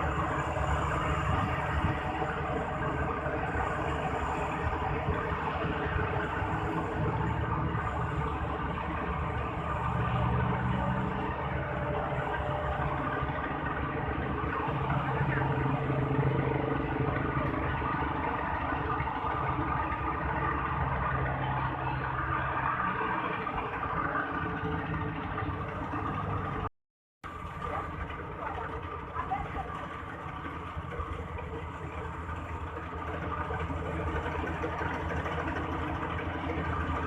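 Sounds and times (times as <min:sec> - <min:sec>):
engine drone: 0:00.0 - 0:37.0.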